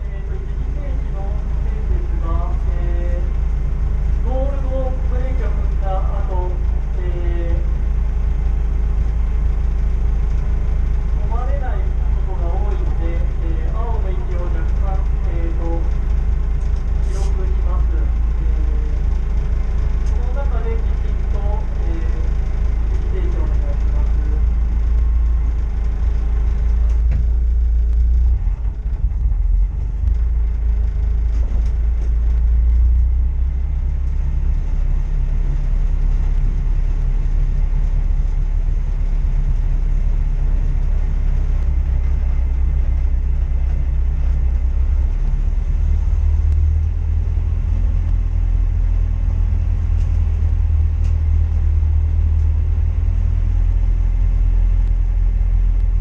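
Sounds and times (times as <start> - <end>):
racing engine rumbling: 0.0 - 56.0.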